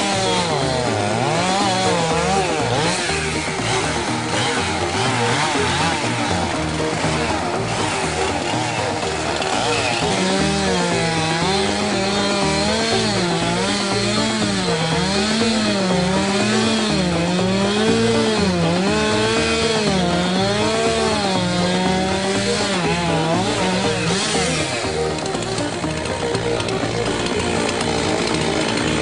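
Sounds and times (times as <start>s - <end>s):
chainsaw cutting ice: 0.0s - 29.0s.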